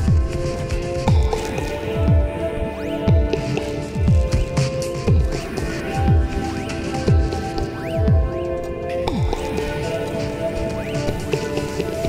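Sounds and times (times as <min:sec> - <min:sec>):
electronic music with synth: 0:00.0 - 0:12.0.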